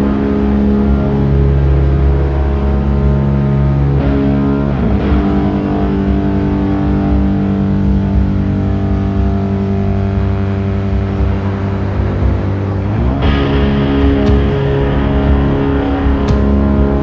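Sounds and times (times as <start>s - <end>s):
distorted guitars and bass droning: 0.0s - 17.0s.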